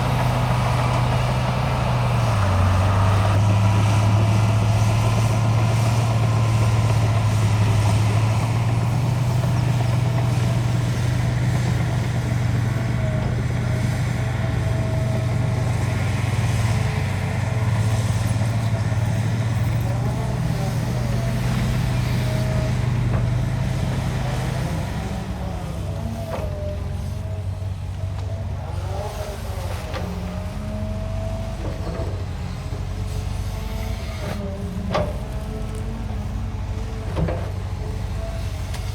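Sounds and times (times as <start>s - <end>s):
diesel machinery engine running: 0.0s - 38.9s.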